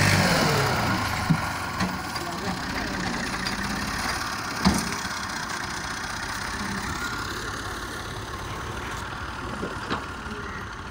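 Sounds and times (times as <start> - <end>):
tractor diesel engine running: 0.0 - 10.9.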